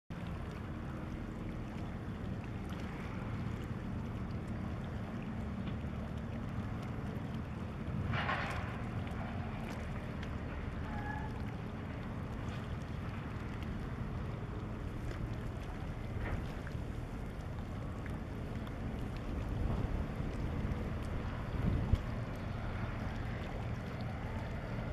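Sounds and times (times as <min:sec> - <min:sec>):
wind buffeting microphone: 0:00.4 - 0:24.9.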